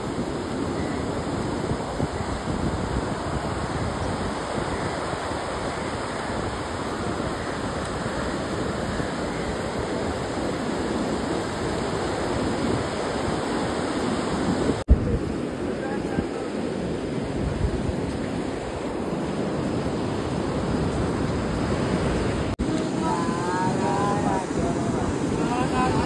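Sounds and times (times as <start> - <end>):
sea surf breaking on beach: 0.0 - 26.0
wind rumbling on microphone: 0.0 - 26.0.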